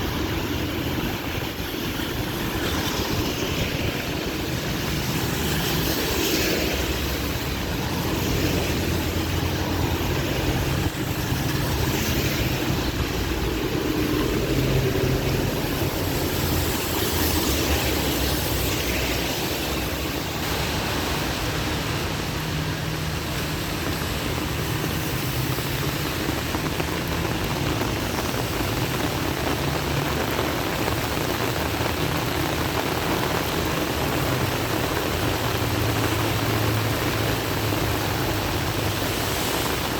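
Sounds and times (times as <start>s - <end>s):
heavy rain falling: 0.0s - 39.9s
road traffic hum: 0.0s - 39.9s.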